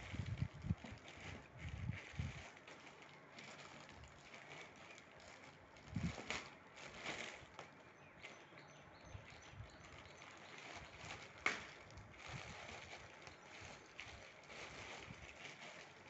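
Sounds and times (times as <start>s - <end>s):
plastic bag crinkling: 0.0s - 8.5s, 9.1s - 16.0s.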